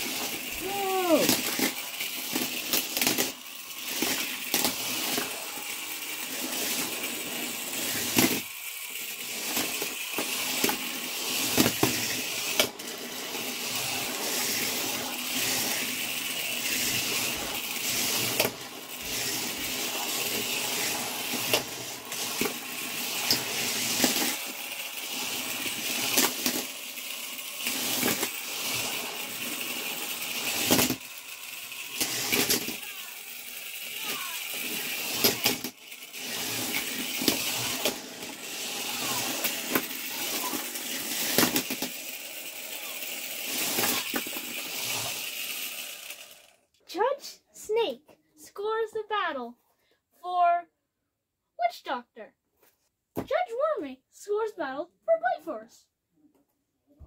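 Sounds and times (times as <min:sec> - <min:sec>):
small electric motors whining: 0:00.0 - 0:46.7.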